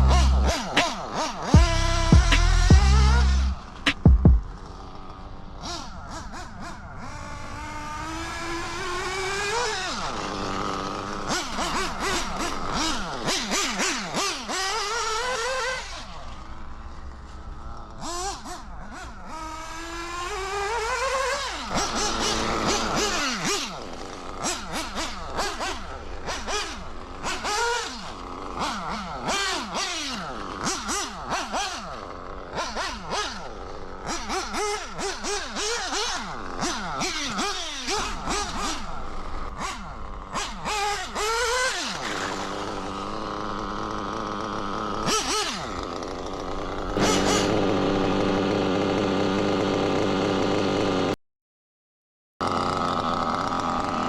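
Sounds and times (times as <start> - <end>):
model engine revving: 0.0 - 51.2, 52.4 - 54.0.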